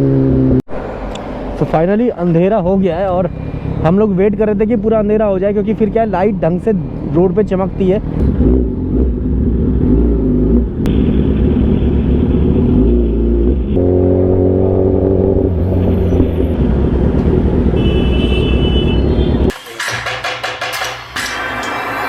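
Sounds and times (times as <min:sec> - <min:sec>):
motorcycle engine rumbling: 0:02.2 - 0:21.4.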